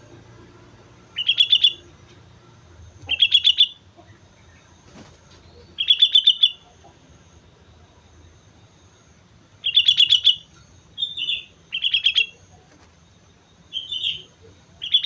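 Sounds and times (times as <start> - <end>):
bird singing clear notes: 0.0 - 15.0.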